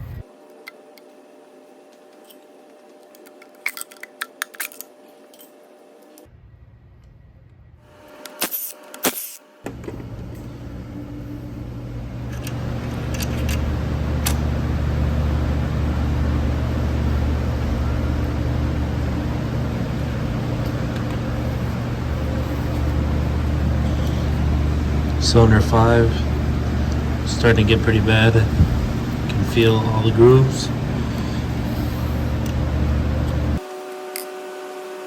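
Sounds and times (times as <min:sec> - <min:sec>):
low machine hum: 0:00.0 - 0:08.6, 0:09.5 - 0:35.0.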